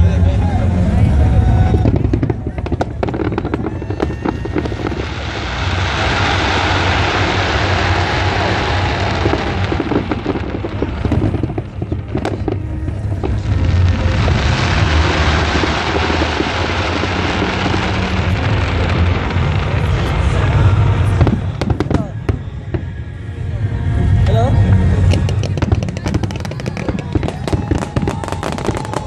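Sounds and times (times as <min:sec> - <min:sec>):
fireworks crackling and popping: 0:00.0 - 0:29.0
low rumble: 0:00.0 - 0:29.0
fireworks bangs: 0:00.4 - 0:29.0.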